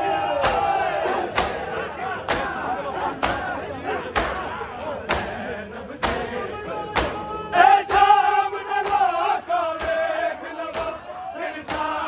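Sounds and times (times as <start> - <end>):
men chanting a lament: 0.0 - 12.0
hands beating chests in unison: 0.3 - 12.0.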